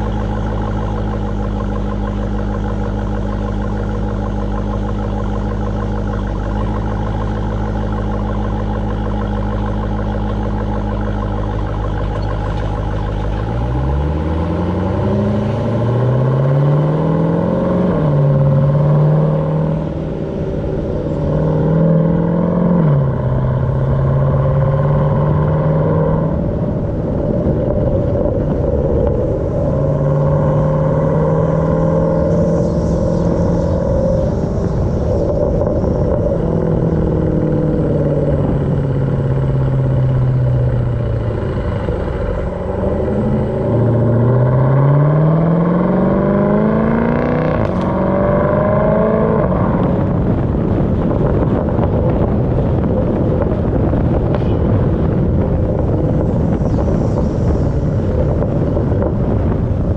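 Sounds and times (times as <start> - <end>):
car engine accelerating and shifting: 0.0 - 59.9.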